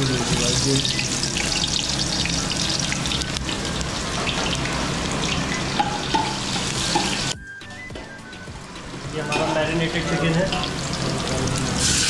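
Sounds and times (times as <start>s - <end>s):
onions sizzling in a pot: 0.0s - 7.4s, 8.6s - 12.0s.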